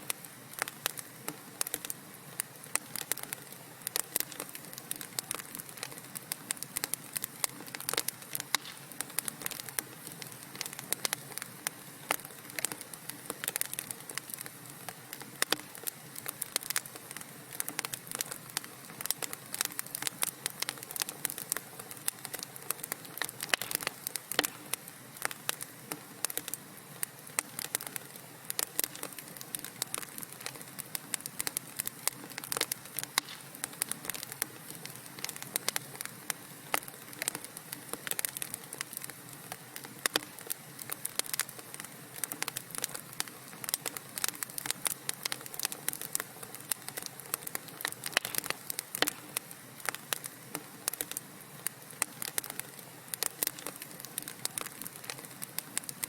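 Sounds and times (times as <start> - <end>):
fireplace wood crackling and popping: 0.0 - 56.0
soft steady hiss: 0.0 - 56.0.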